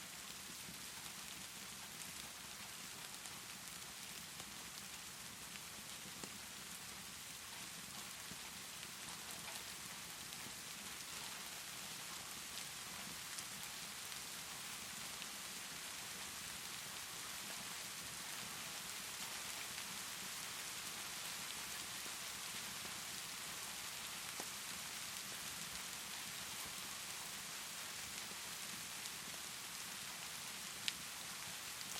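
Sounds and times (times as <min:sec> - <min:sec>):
steady rainfall: 0:00.0 - 0:31.9
wood fire crackling: 0:00.3 - 0:31.9.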